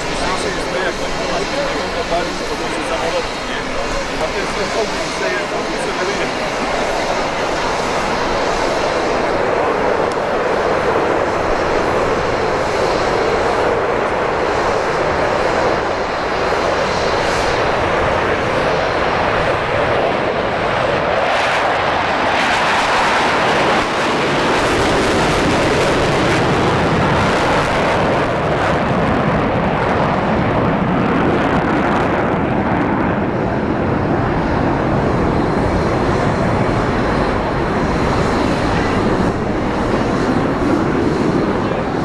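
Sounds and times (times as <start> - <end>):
jet engine noise: 0.0 - 42.0.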